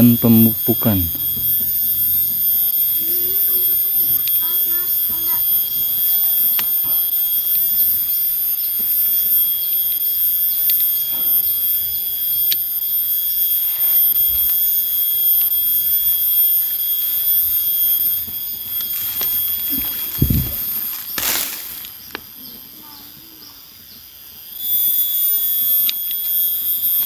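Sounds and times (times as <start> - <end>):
shrill insect drone: 0.0 - 27.0.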